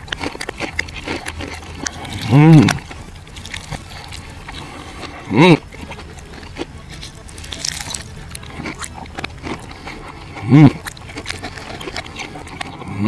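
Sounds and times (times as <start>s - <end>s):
reversed chewing crunches: 0.0s - 13.0s.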